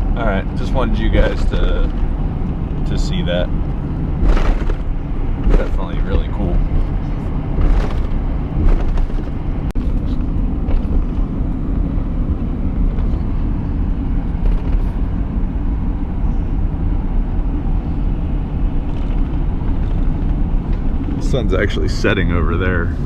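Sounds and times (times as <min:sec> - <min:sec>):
truck rumbling from inside cab: 0:00.0 - 0:23.0.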